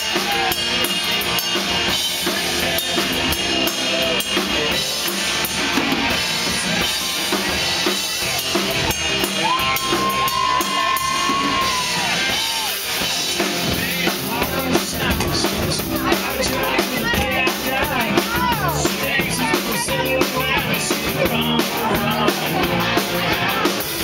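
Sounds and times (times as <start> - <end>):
drum kit beat: 0.0 - 24.0
live rock band playing: 0.0 - 24.0.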